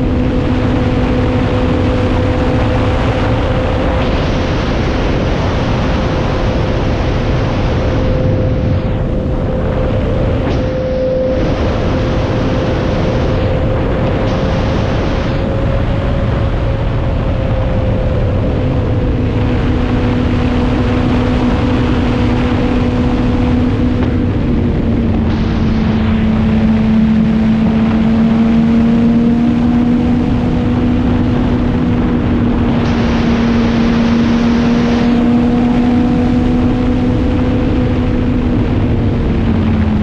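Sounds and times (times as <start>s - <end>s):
motorcycle engine cruising: 0.0s - 40.0s
wind rushing over microphone: 0.0s - 40.0s.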